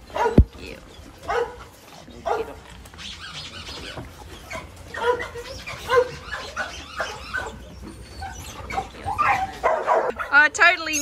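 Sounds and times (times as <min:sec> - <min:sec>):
dogs barking: 0:00.0 - 0:10.5.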